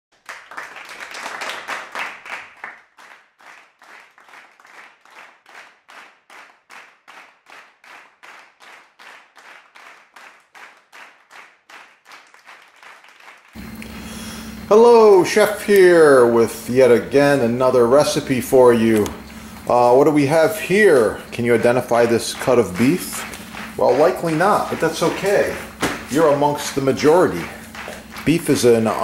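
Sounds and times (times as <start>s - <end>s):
people clapping: 0.1s - 13.9s, 14.8s - 29.0s
rhythmic clapping: 0.1s - 14.0s, 14.8s - 29.0s.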